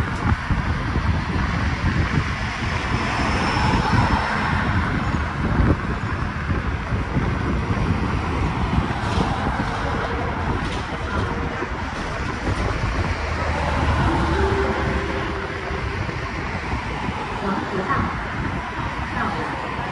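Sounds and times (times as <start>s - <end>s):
bus engine and road noise: 0.0s - 19.9s.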